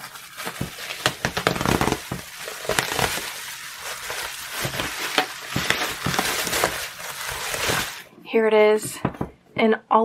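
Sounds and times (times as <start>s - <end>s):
bubble wrap crinkling: 0.0s - 8.1s.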